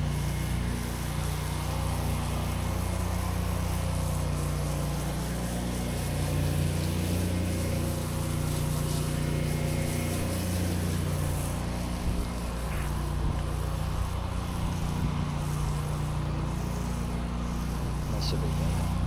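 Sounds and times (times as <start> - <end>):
gasoline engine running: 0.0 - 19.0.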